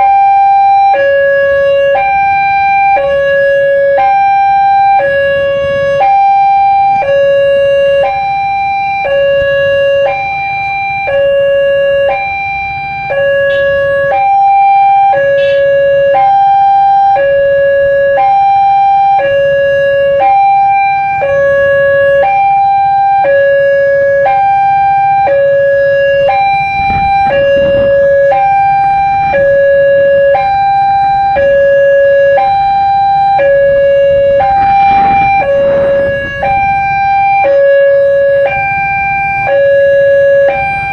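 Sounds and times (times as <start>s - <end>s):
two-tone warning siren: 0.0s - 40.9s.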